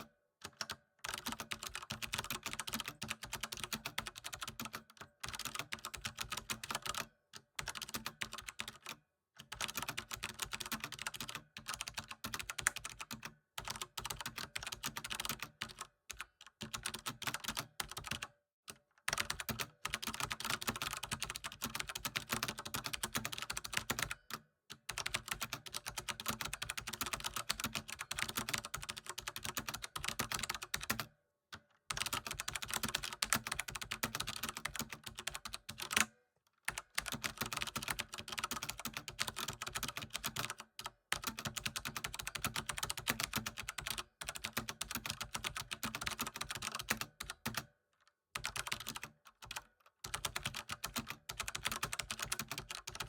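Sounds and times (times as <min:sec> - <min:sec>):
typing on computer keyboard: 0:00.0 - 0:47.7, 0:48.3 - 0:53.0.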